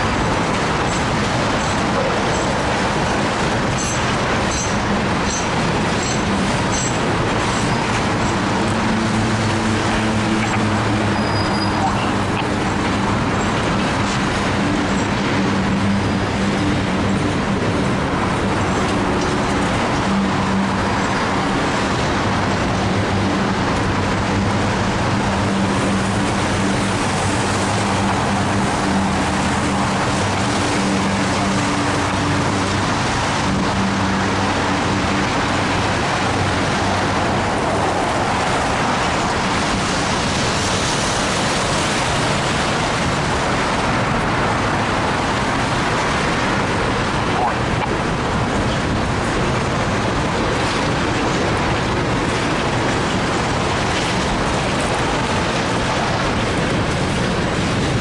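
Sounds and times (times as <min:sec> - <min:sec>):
tank cars rolling on rails: 0:00.0 - 0:58.0.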